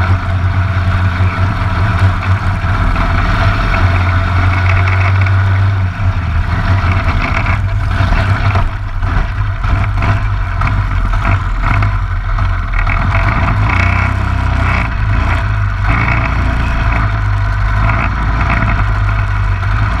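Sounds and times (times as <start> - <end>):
kart engine running: 0.0 - 20.0.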